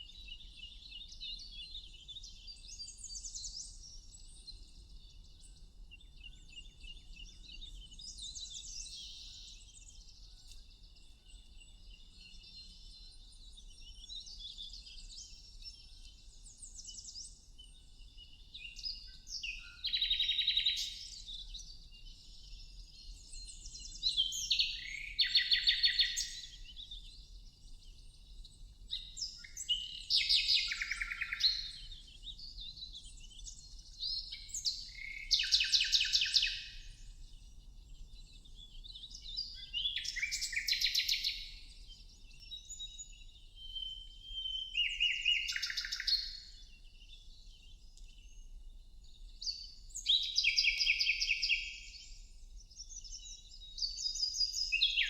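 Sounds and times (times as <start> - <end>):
faint high chirping background: 0.0 - 55.0
songbirds chirping and singing: 0.0 - 55.0.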